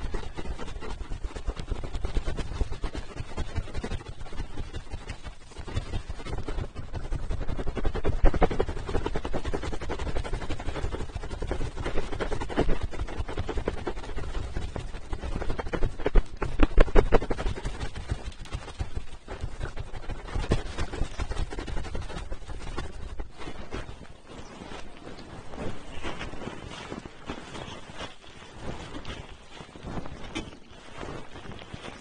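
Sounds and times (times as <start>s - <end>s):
rubbing on microphone: 0.0s - 32.0s.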